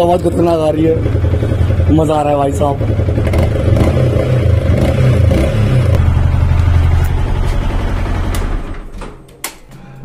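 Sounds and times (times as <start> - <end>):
motorcycle engine running: 0.0 - 8.9.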